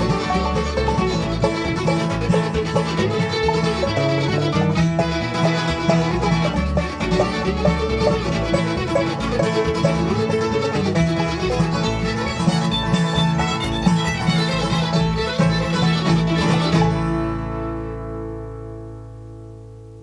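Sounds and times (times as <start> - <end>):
bluegrass band playing: 0.0 - 20.0.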